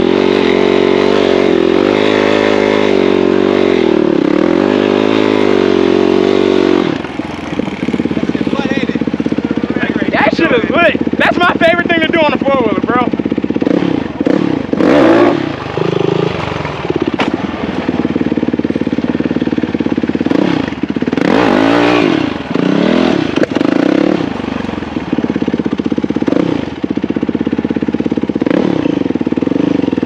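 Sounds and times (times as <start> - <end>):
engine idling and revving: 0.0 - 30.0.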